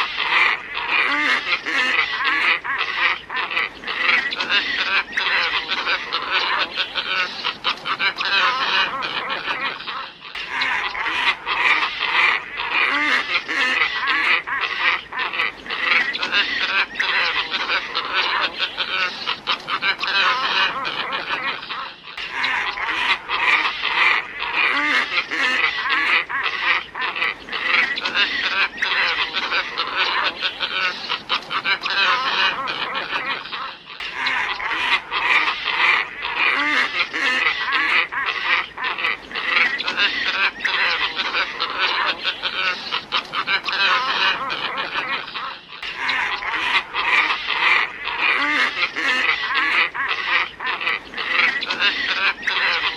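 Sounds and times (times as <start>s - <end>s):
ibis flock calling: 0.0s - 52.9s.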